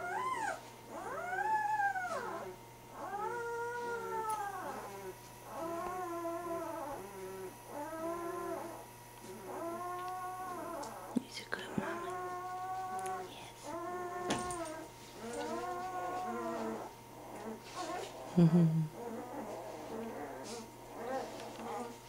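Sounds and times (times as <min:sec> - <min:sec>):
puppy whining cries: 0:00.0 - 0:11.2, 0:11.8 - 0:22.0.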